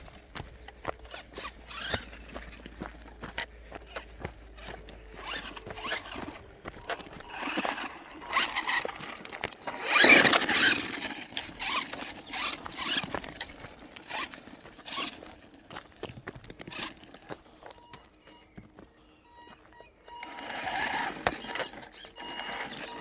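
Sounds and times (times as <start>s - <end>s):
toy truck motor whining: 0.0s - 18.1s, 19.3s - 23.0s
tyres scrabbling over gravel: 0.0s - 23.0s.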